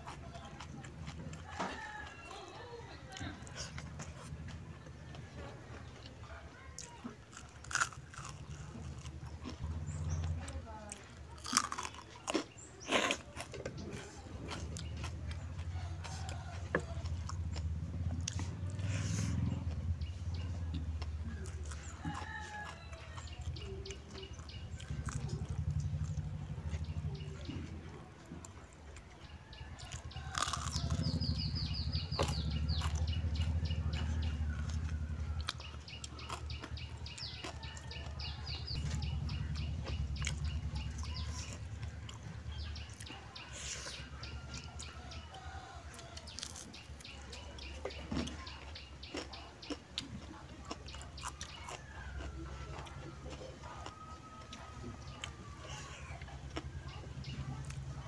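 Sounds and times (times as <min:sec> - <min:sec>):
person chewing: 0:00.0 - 0:02.4, 0:06.7 - 0:57.9
birds chirping: 0:00.0 - 0:58.0.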